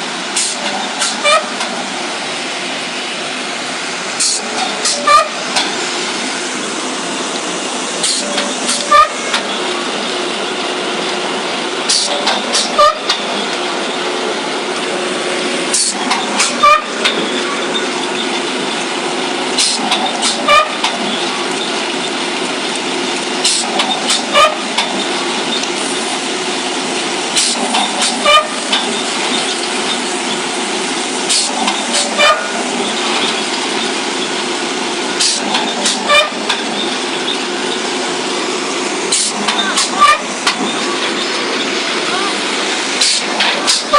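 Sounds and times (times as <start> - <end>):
pile driver rig running: 0.0 - 43.9.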